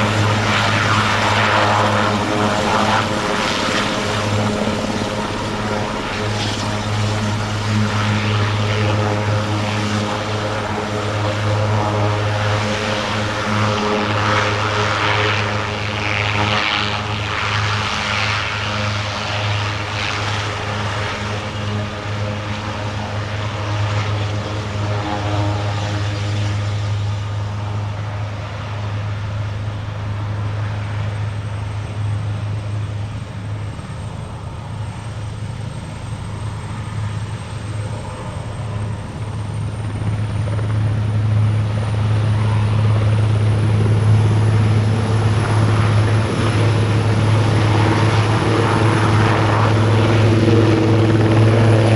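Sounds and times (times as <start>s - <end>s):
helicopter rotor drone: 0.0s - 51.9s
turbine engines rushing: 0.0s - 51.9s.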